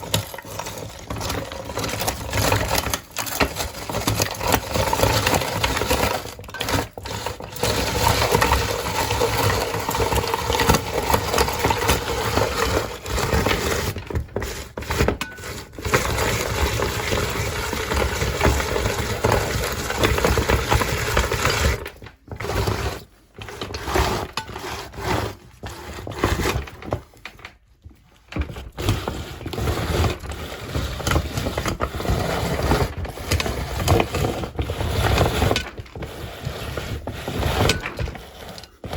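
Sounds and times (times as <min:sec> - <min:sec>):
meat grinder crushing ice: 0:00.0 - 0:27.3, 0:28.4 - 0:38.9.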